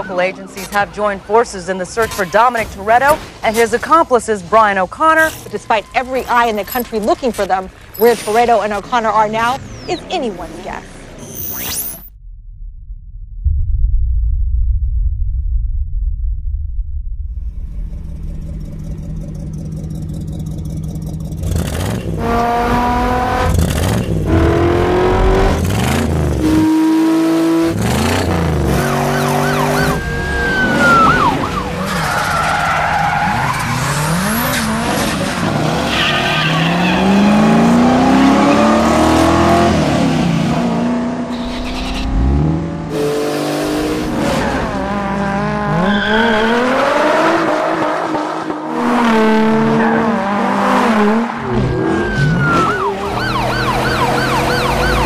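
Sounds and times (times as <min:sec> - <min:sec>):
car engines revving: 0:00.0 - 0:12.0, 0:17.6 - 0:55.0.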